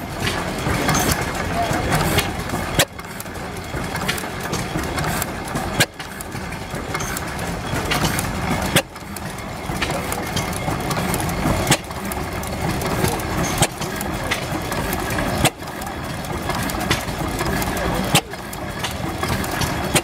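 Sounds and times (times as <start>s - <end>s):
gas engine clattering: 0.0s - 20.0s.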